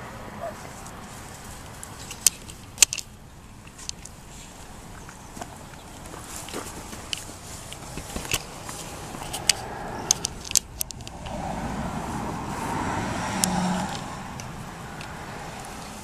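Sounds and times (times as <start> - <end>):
vehicle passing on road: 0.0 - 16.0.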